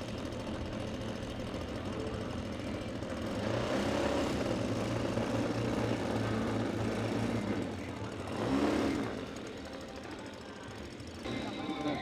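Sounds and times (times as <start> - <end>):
model airplane engine running: 0.0 - 3.2, 4.0 - 12.0.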